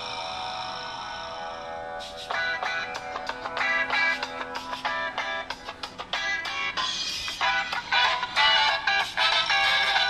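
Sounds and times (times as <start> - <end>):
music from small phone speaker: 0.0 - 10.0.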